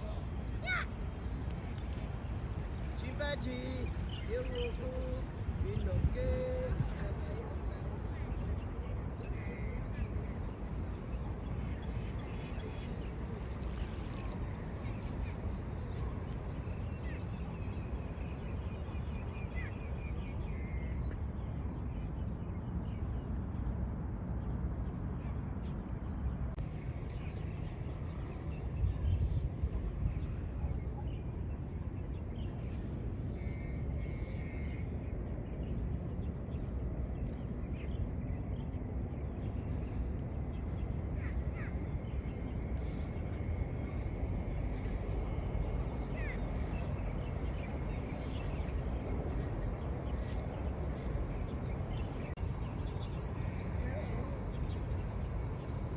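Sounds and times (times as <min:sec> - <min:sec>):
birds chirping: 0:00.0 - 0:23.6, 0:25.6 - 0:55.9
steady low rumble: 0:00.0 - 0:55.9.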